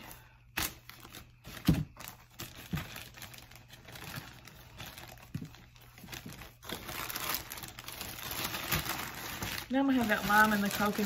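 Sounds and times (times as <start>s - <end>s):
packaging clicks and rustling: 0.6s - 11.0s.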